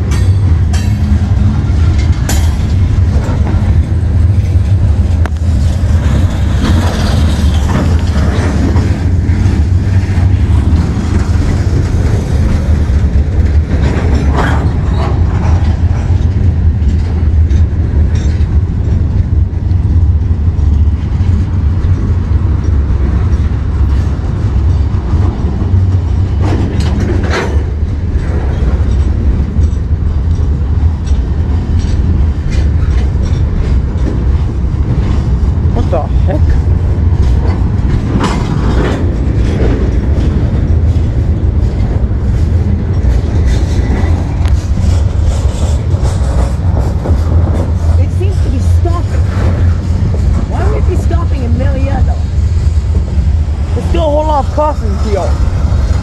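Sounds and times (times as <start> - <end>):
freight train wheels rumbling: 0.0 - 56.0
wheels and couplers clanking: 0.0 - 56.0.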